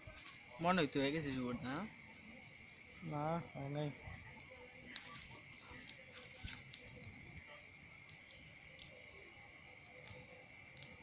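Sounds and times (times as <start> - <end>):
crickets chirping: 0.0 - 11.0
straw fire crackling and popping: 0.0 - 11.0.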